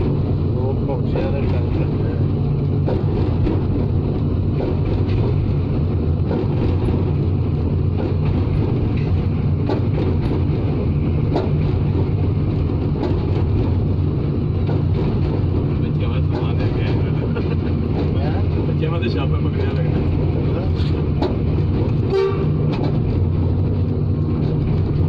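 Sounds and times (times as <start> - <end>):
locomotive engine running: 0.0 - 25.0.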